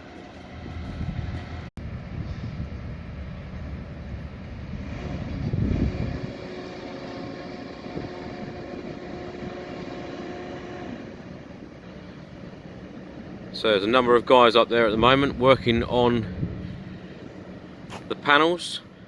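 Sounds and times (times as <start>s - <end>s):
rumble of traffic and machinery: 0.0s - 19.0s
steady machine hum: 0.0s - 19.0s
wind on microphone: 0.4s - 13.5s, 14.8s - 18.1s.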